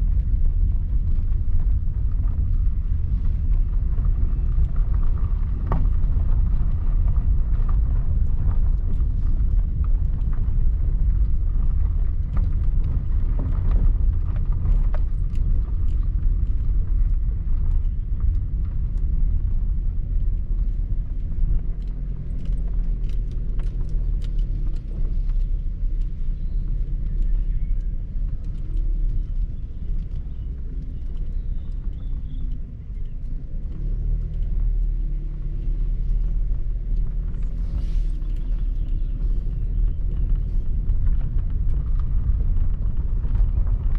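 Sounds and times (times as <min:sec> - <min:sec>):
car road rumble: 0:00.0 - 0:43.9
light ticks: 0:00.1 - 0:43.9.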